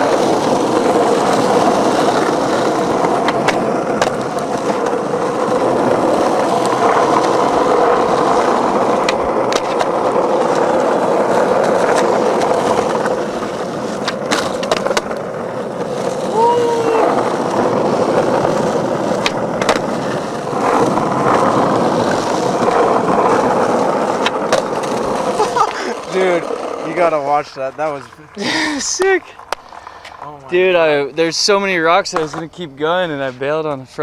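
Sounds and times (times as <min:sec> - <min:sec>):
sharp skateboard clacks: 0:00.0 - 0:30.9, 0:32.0 - 0:32.5
skateboard wheels rolling on concrete: 0:00.0 - 0:34.0.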